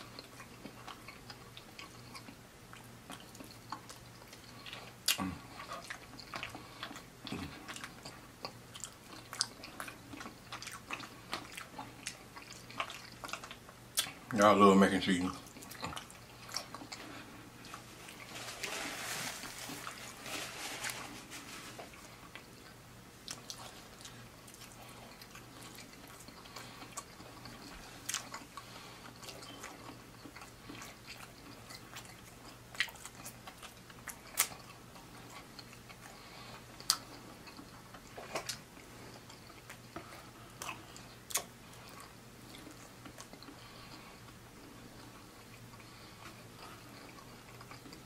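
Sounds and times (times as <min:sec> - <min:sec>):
person chewing: 0:00.0 - 0:14.3, 0:15.4 - 0:48.0
faint low hum: 0:00.0 - 0:48.0.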